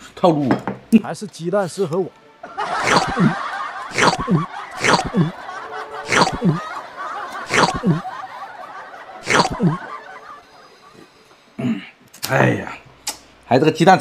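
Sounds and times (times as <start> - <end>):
busy background noise: 0.8 - 13.5.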